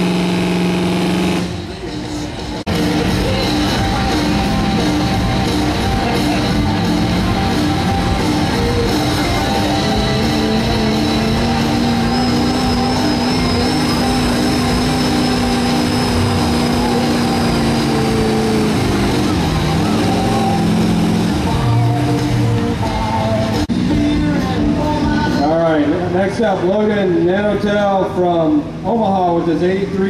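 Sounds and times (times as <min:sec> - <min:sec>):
rock music with guitar: 0:00.0 - 0:25.5
truck engine running hard: 0:00.0 - 0:30.0.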